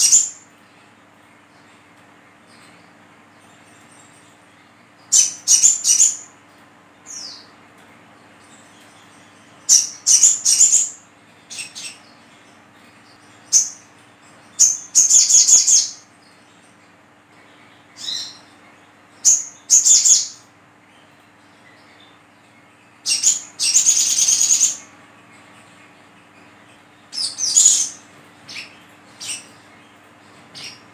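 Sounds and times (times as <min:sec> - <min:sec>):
bird chirping calls: 0:00.0 - 0:30.9.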